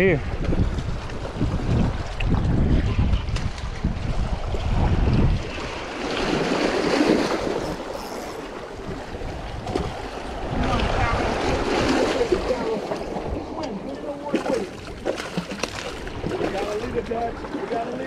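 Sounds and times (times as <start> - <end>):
wind rumbling on microphone: 0.0 - 17.8
waves splashing against rocks: 0.3 - 18.0.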